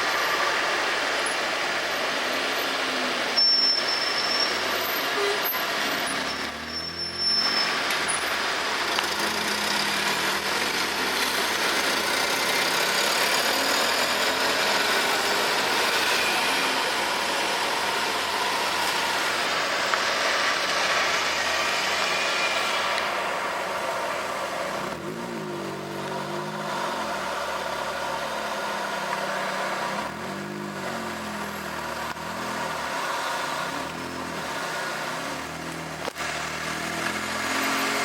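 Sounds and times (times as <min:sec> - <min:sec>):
vehicle engines: 0:00.0 - 0:38.0.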